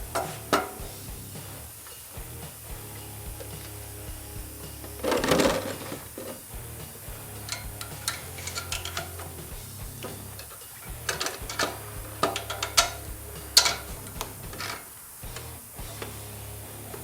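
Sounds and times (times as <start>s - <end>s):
metal tools clinking: 0.0s - 1.0s, 1.6s - 16.1s.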